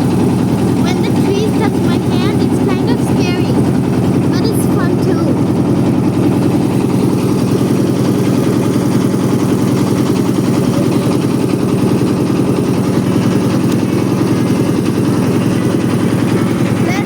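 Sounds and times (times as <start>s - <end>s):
boat engine chugging: 0.0s - 17.0s.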